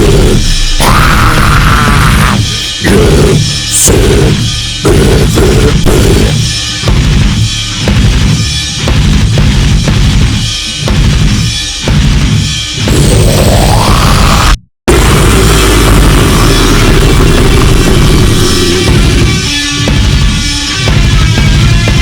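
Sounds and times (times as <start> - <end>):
drum kit pounding: 0.0 - 22.0
heavy metal music: 0.0 - 22.0.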